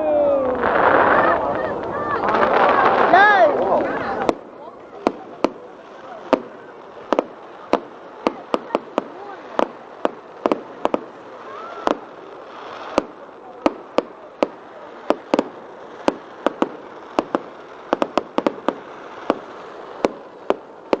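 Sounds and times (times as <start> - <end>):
background rush: 0.0 - 21.0
fireworks bangs and cracks: 0.0 - 21.0.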